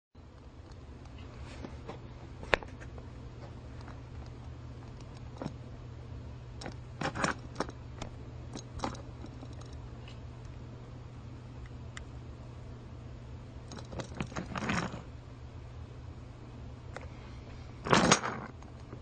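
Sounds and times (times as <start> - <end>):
steady low hum: 0.2 - 19.0.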